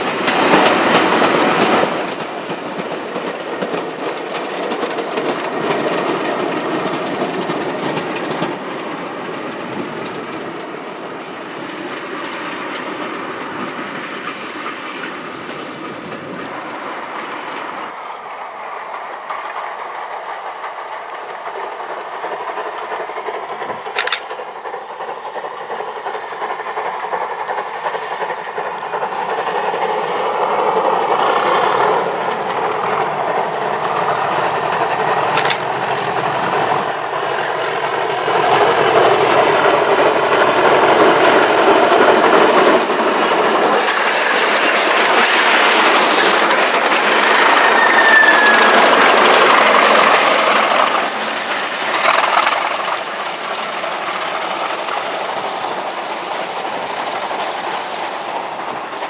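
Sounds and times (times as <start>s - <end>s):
diesel locomotive engine: 0.0s - 59.0s
train rolling along rails: 0.0s - 59.0s.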